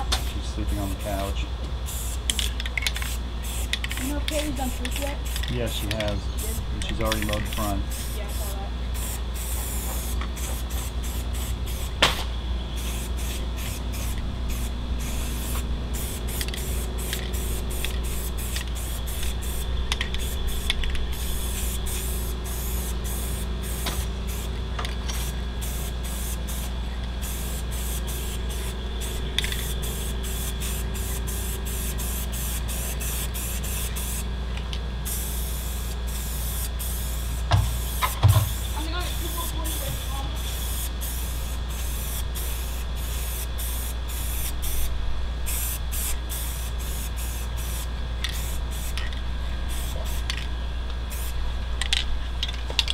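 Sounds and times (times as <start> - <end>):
aerosol spray can hissing: 1.9 - 5.5, 7.3 - 11.9, 12.8 - 24.5, 25.1 - 34.2, 35.0 - 44.9, 45.5 - 49.0, 49.7 - 50.3.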